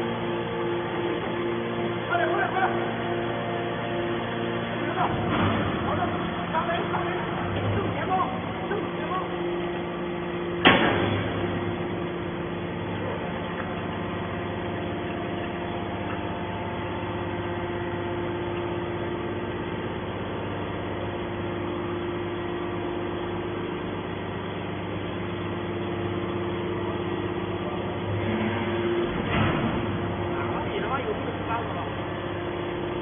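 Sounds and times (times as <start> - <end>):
baler pump motor humming: 0.0 - 33.0.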